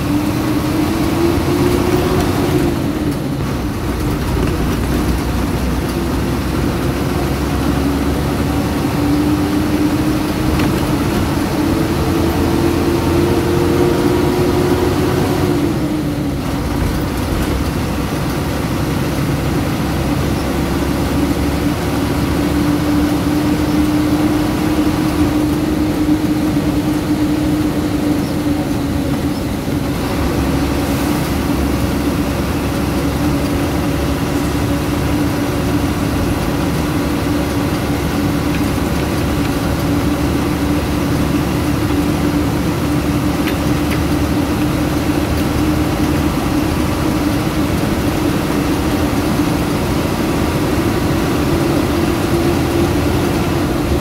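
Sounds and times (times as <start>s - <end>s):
bus diesel engine whining: 0.0s - 54.0s
road noise: 0.0s - 54.0s.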